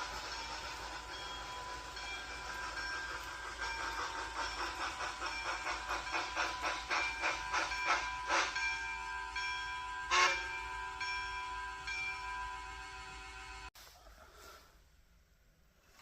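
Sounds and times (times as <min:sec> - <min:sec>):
steam hissing: 0:00.0 - 0:13.7
steam train chuffing: 0:00.0 - 0:13.7.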